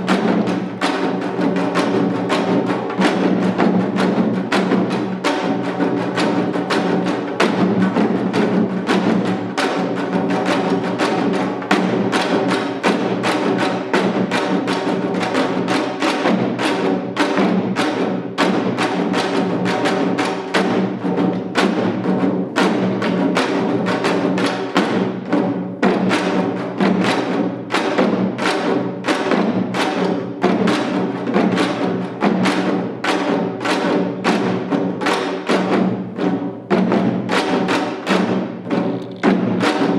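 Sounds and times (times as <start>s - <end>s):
hourglass drum fast rhythm: 0.0s - 39.9s.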